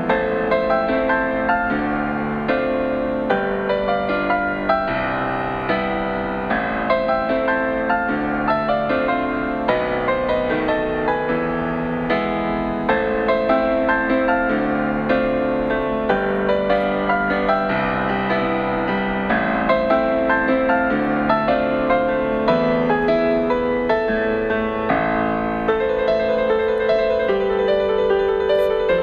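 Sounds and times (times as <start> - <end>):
gentle slow piano music: 0.0 - 29.0.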